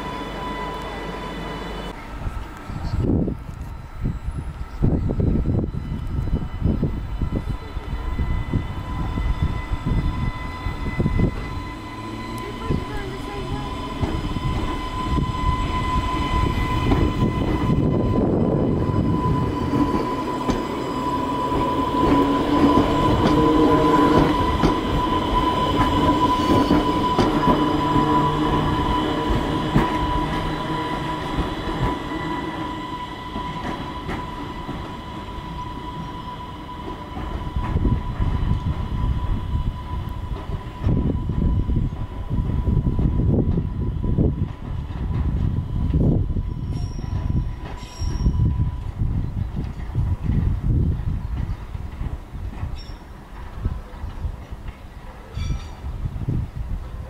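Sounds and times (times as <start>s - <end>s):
electric train high whine: 0.0s - 57.0s.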